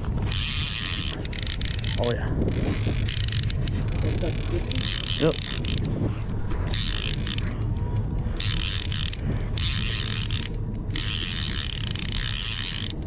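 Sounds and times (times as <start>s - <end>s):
fishing reel ratcheting: 0.0s - 6.0s, 6.6s - 13.0s.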